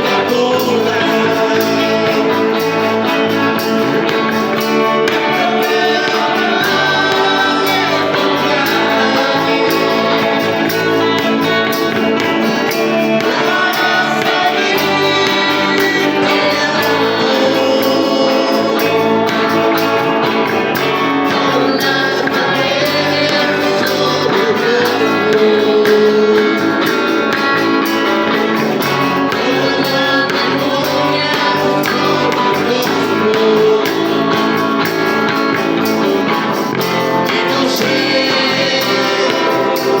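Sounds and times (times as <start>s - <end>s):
guitars: 0.0s - 40.0s
percussion beat: 0.0s - 40.0s
person singing: 0.0s - 40.0s.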